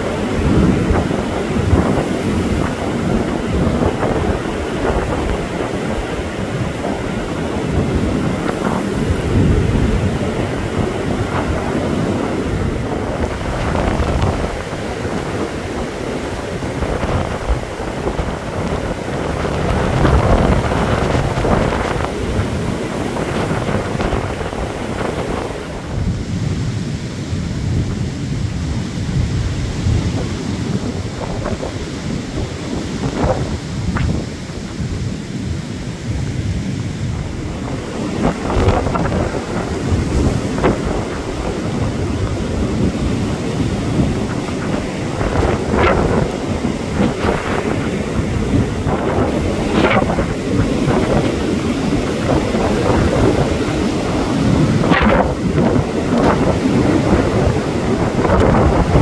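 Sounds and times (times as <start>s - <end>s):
blizzard wind buffeting microphone: 0.0s - 59.0s.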